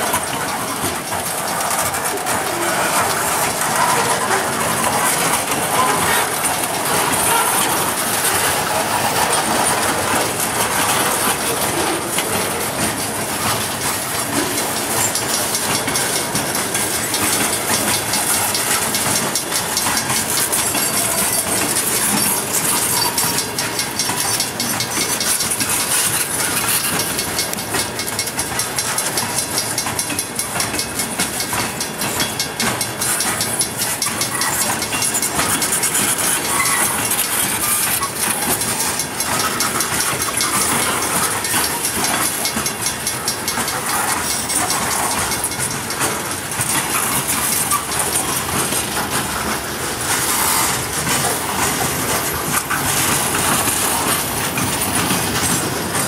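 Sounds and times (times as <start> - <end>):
train wheels rumbling on rails: 0.0 - 56.0
wheels clicking over rail joints: 0.0 - 56.0.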